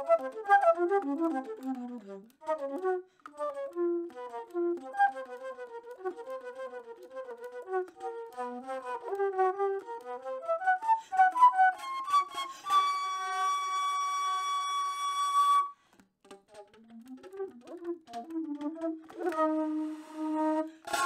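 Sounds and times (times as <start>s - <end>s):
flute music: 0.0s - 21.0s.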